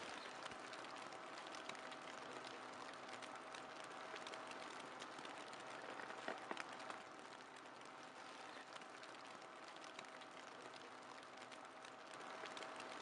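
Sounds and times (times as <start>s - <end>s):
small crackles and ticks: 0.0s - 13.0s.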